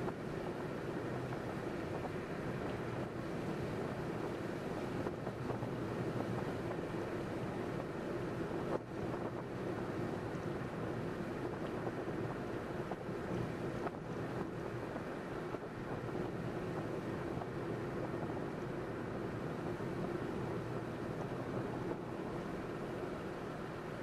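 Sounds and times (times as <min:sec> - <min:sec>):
car road and wind noise: 0:00.0 - 0:24.0.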